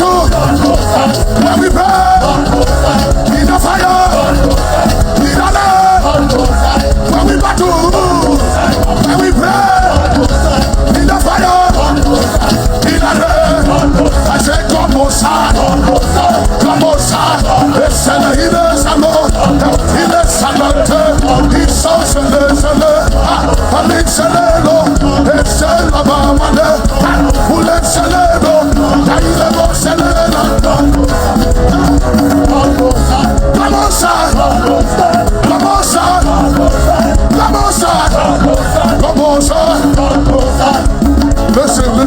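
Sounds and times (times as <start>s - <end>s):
praise band playing upbeat song: 0.0s - 42.0s
voices singing along: 0.0s - 42.0s.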